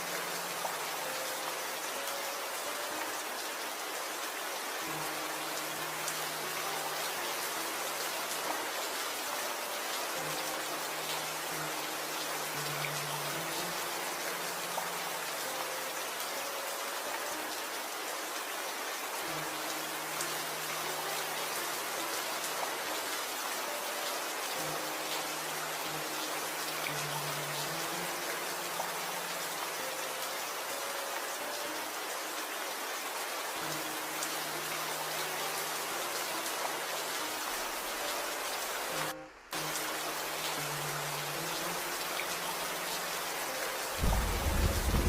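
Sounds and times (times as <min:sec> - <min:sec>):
soft slow background music: 0:00.0 - 0:45.0
steady rain: 0:00.0 - 0:45.0.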